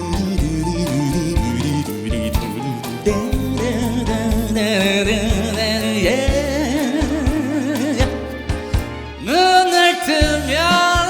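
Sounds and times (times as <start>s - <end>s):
live band playing a ballad: 0.0s - 11.0s.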